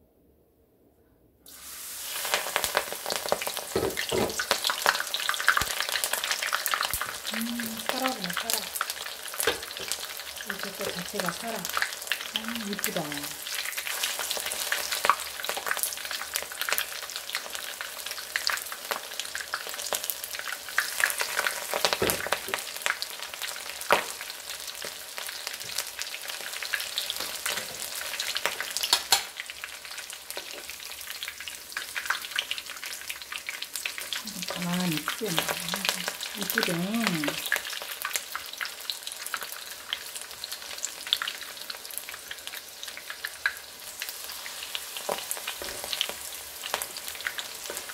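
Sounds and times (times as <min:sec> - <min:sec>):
deep-frying sizzle and pops: 0:01.5 - 0:47.9.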